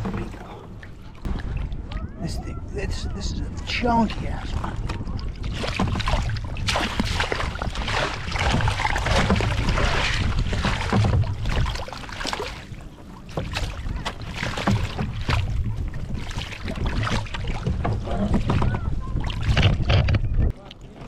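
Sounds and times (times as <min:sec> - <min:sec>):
water splashing: 0:00.0 - 0:21.0
wind rumble on microphone: 0:00.0 - 0:21.0.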